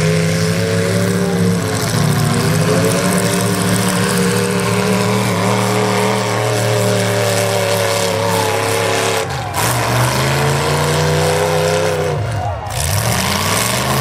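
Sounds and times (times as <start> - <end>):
car engines running loudly: 0.0 - 14.0.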